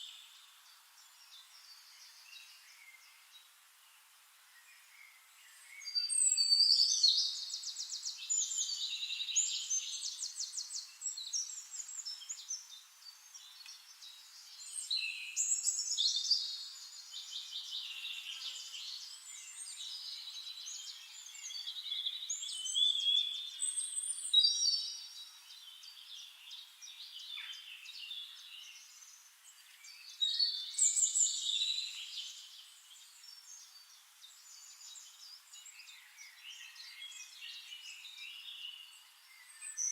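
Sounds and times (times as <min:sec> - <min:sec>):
birds singing and twittering: 0:00.0 - 0:39.9.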